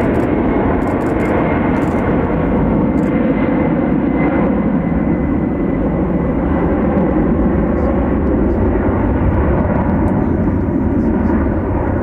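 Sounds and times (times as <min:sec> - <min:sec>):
high engine whine: 0:00.0 - 0:12.0
jet engines roaring: 0:00.0 - 0:12.0.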